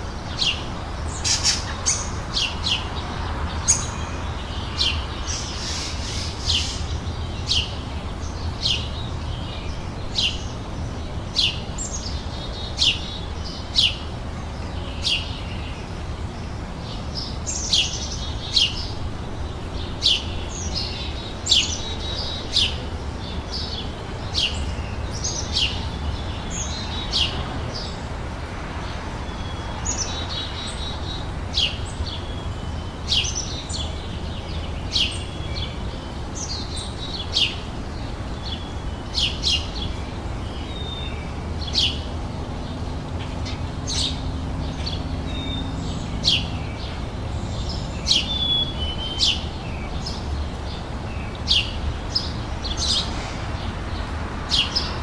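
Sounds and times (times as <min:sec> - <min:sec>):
birds chirping and warbling: 0:00.0 - 0:55.0.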